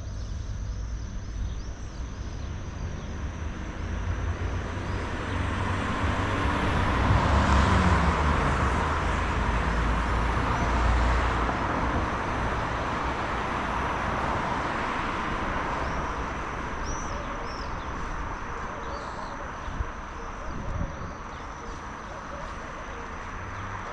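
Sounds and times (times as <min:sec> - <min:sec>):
vehicle passing by: 0:02.4 - 0:23.9.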